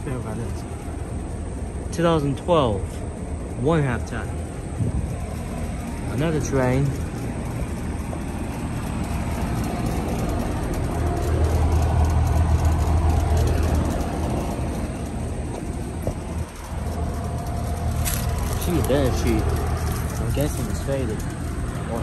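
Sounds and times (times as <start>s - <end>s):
air conditioner units humming: 0.0s - 22.0s.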